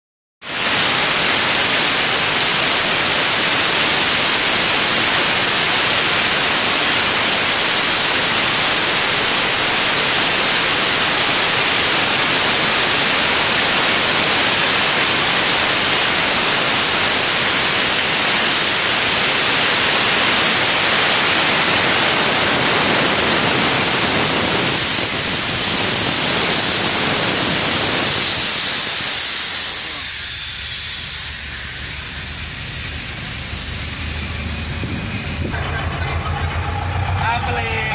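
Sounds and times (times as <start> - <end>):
compressed air hissing from nozzle: 0.5 - 35.6.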